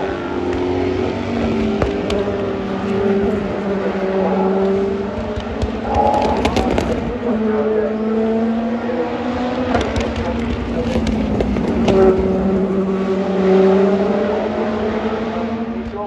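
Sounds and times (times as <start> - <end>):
race car engines passing: 0.0 - 16.0.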